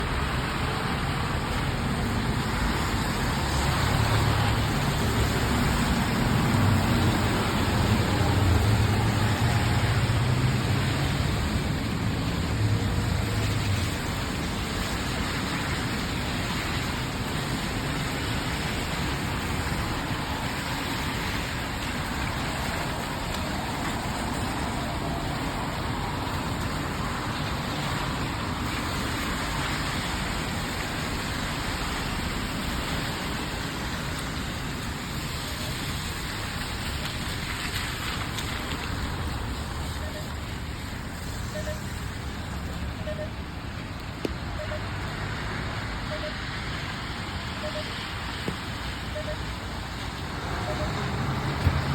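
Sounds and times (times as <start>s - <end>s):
rain falling on road: 0.0s - 51.9s
vehicle engine rumble: 0.0s - 51.9s.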